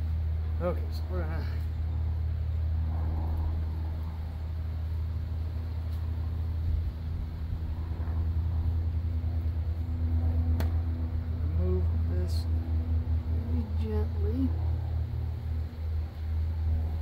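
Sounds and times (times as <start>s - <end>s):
honeybees humming: 0.0s - 17.0s
low rumble: 0.0s - 17.0s.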